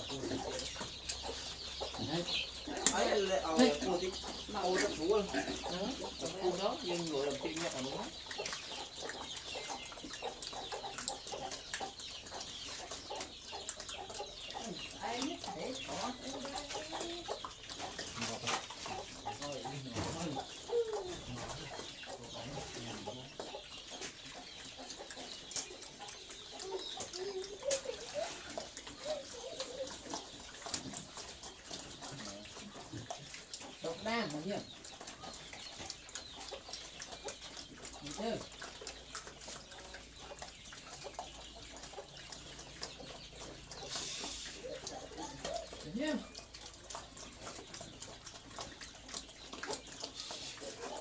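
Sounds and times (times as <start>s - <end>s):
chickens clucking: 0.0s - 51.0s
pigs eating with clicks and smacks: 0.0s - 51.0s.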